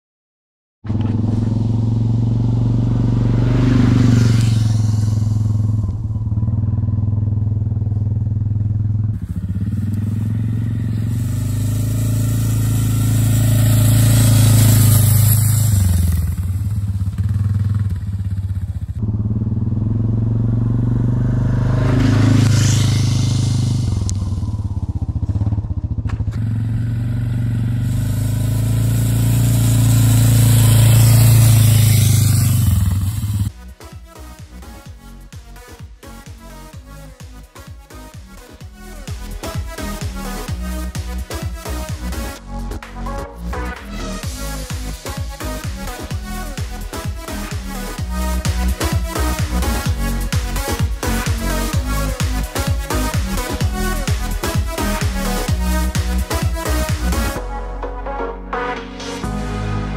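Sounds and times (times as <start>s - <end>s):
quad bike engine driving by: 0.8s - 34.9s, 35.5s - 57.4s.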